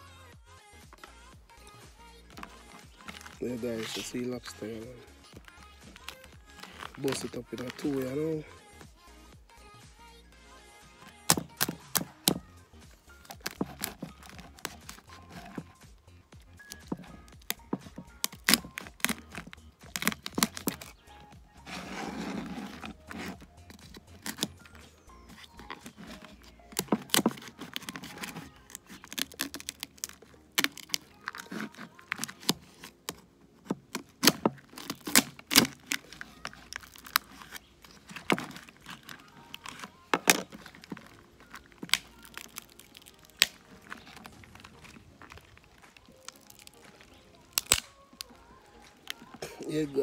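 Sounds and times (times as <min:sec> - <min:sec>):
lobster shell cracking: 0:02.3 - 0:04.5, 0:05.3 - 0:08.2, 0:11.2 - 0:12.5, 0:13.2 - 0:15.9, 0:16.5 - 0:21.1, 0:21.7 - 0:49.5.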